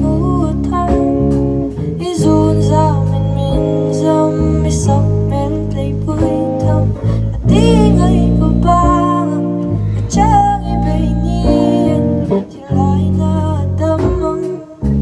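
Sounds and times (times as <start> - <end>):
guitar: 0.0 - 15.0
low bass notes: 0.0 - 15.0
person singing with vibrato: 0.0 - 15.0.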